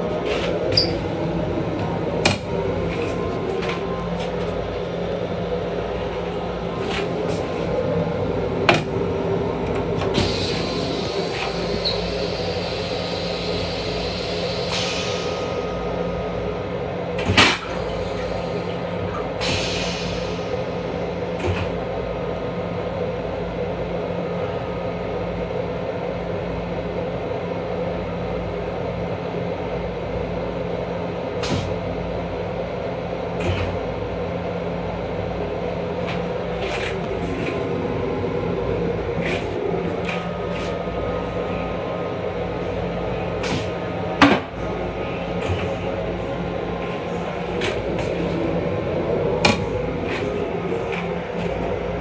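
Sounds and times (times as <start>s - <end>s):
railcar hum and rumble: 0.0s - 52.0s.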